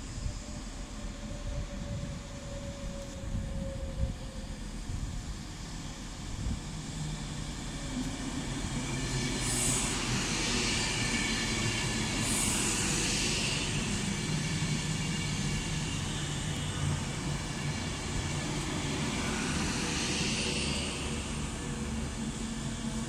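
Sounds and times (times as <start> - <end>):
electric train rumbling on rails: 0.0 - 23.0.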